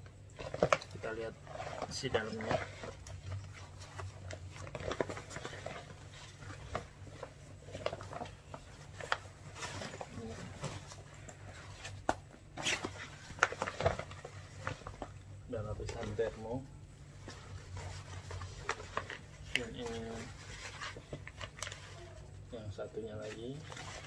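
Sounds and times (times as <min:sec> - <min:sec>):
bag fabric rustling: 0:00.3 - 0:22.4.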